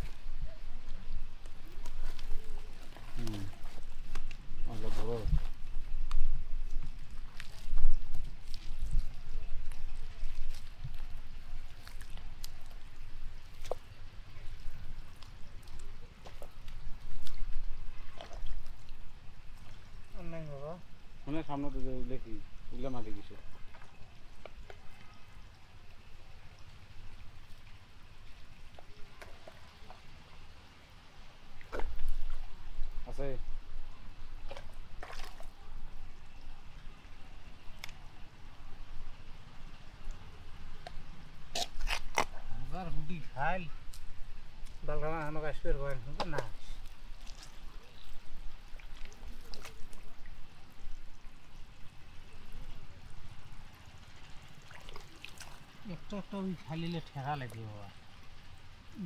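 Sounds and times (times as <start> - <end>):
water dripping: 0.0 - 59.0
small clicks and splashes: 0.8 - 20.0, 23.6 - 30.5, 31.5 - 33.3, 34.3 - 38.3, 39.6 - 42.6, 43.8 - 52.6, 53.9 - 58.6.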